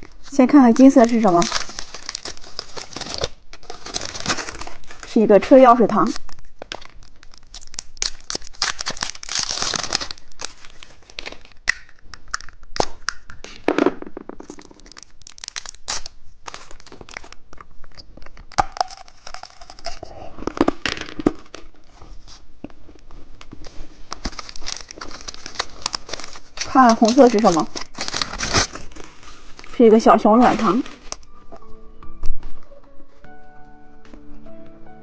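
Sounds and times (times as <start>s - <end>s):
plastic packaging crinkling: 0.0s - 13.3s, 14.4s - 21.9s, 23.6s - 31.7s.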